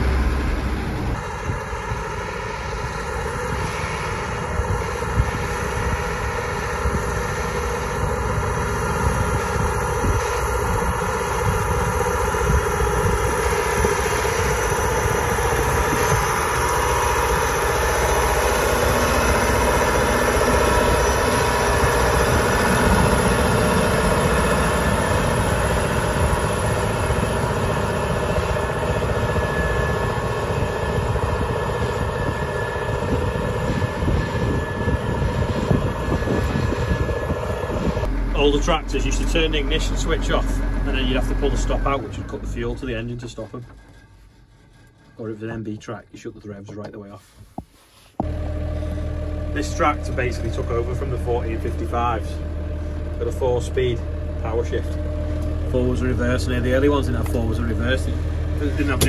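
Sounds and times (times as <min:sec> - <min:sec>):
tractor diesel engine under load: 0:00.0 - 0:47.2, 0:48.2 - 0:59.0.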